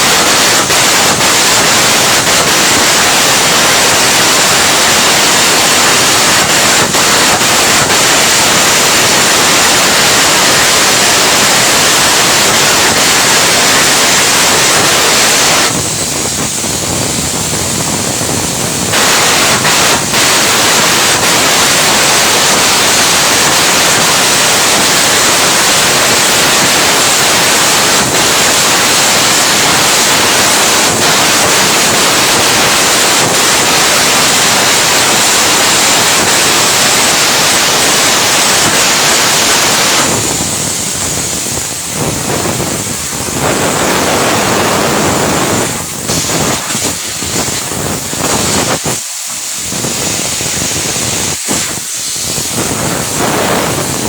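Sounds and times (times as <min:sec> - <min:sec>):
welding arc crackling and hissing: 0:00.0 - 0:54.0.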